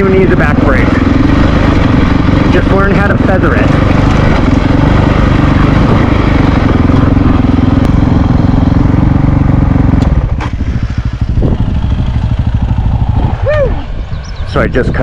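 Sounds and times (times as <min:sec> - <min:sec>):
motorcycle engine engine braking: 0:00.0 - 0:14.9.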